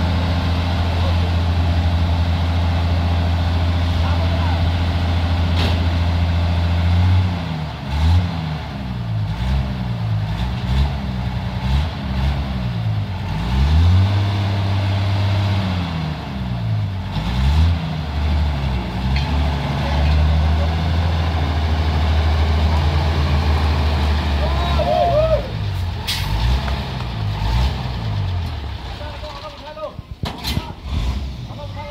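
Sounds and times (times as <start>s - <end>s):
heavy truck engine revving: 0.0s - 31.9s.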